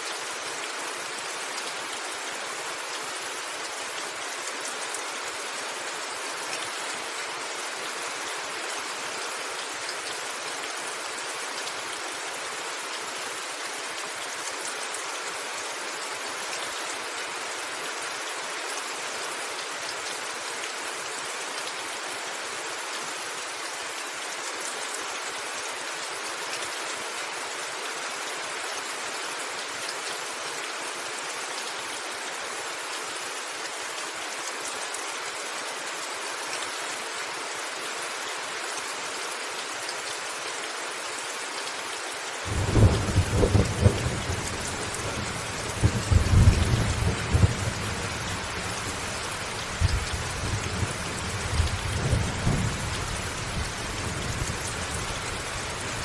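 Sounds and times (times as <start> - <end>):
steady rain hissing: 0.0 - 56.0.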